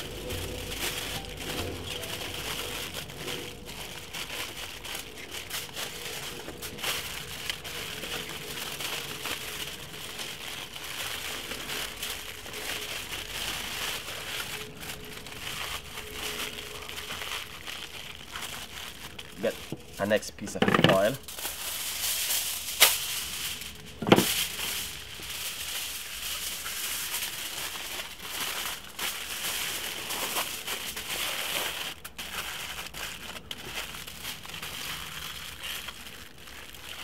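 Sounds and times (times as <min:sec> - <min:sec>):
aluminium foil crinkling: 0:00.0 - 0:37.0.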